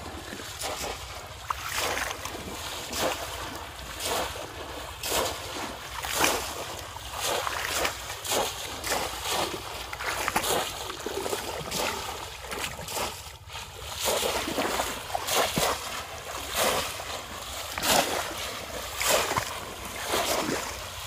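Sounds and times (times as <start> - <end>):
water splashing: 0.0 - 21.0.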